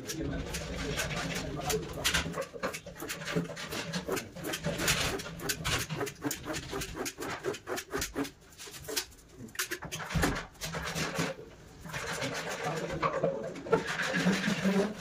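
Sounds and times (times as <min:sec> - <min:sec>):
rapid irregular clicks and knocks: 0:00.0 - 0:15.0.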